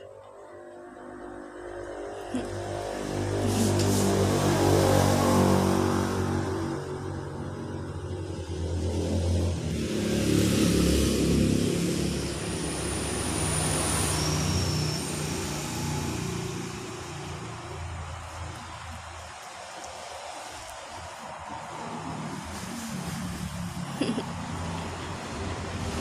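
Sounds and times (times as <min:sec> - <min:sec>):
motor vehicle passing by: 0:00.0 - 0:26.0.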